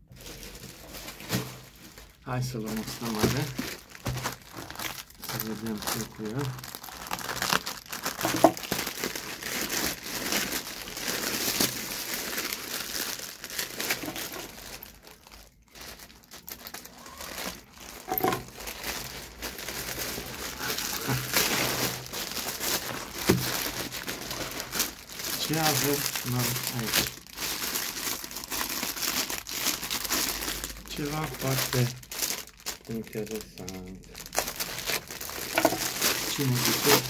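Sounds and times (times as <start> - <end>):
packaging crinkling and tearing: 0.0 - 37.0.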